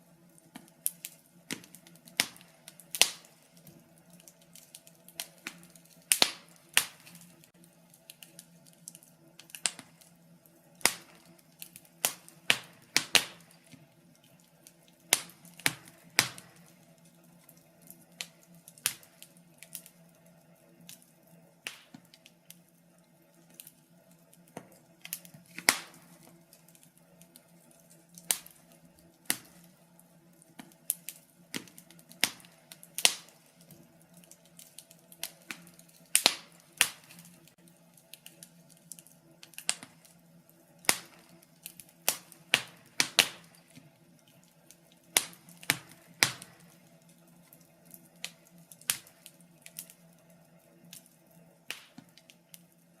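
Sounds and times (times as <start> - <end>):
faint steady hum: 0.0 - 53.0
wood fire crackling and popping: 0.0 - 53.0.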